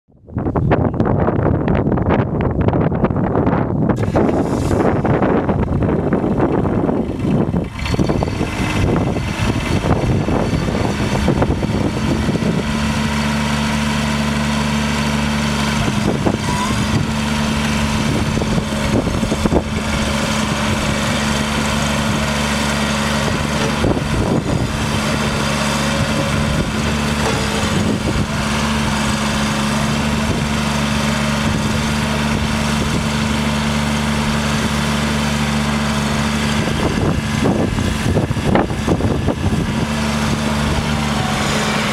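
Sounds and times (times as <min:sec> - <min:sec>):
diesel engine idling: 0:03.8 - 0:41.9.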